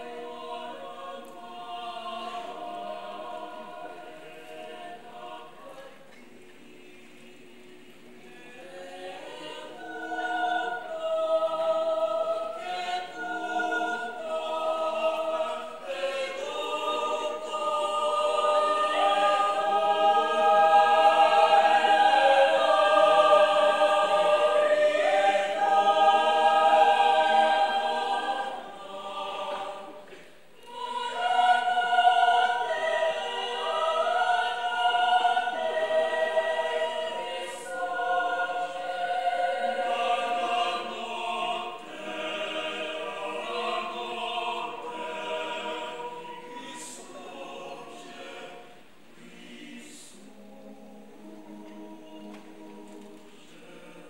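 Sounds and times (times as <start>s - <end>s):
mixed choir singing in harmony: 0.0s - 54.0s.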